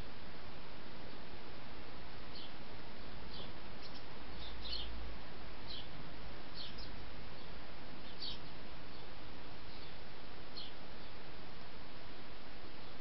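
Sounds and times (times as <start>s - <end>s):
songbird chirping: 2.1s - 13.0s.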